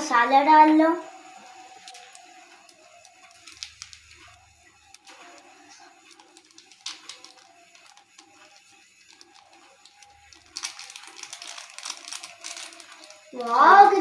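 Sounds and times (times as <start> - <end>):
foil sachet crinkling and tapping: 1.6 - 14.0.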